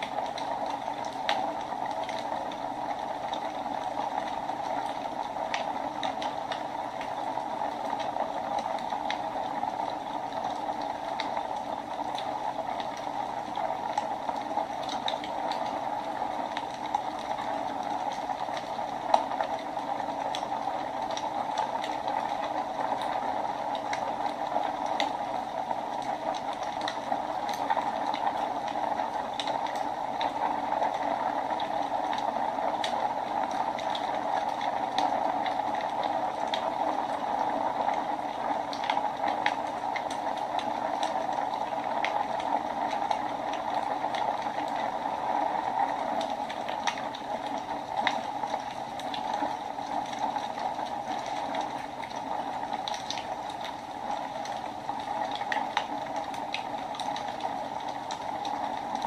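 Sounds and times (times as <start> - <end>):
fire crackling and popping: 0.0 - 59.0
wood fire hissing: 0.0 - 59.0.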